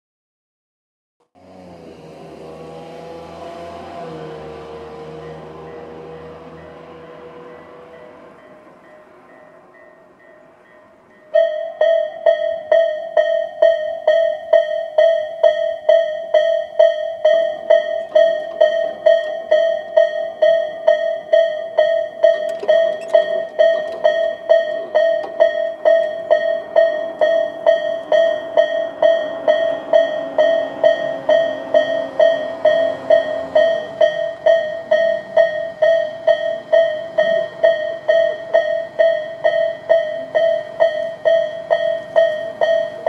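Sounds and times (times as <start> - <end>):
level crossing warning bell: 3.0 - 43.0.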